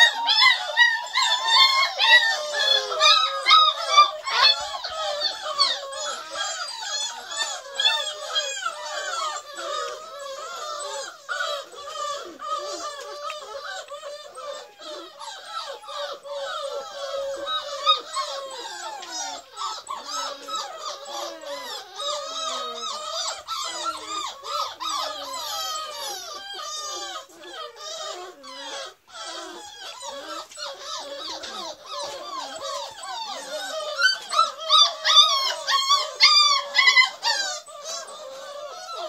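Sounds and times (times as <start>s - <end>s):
puppies whining and squealing: 0.0s - 39.0s.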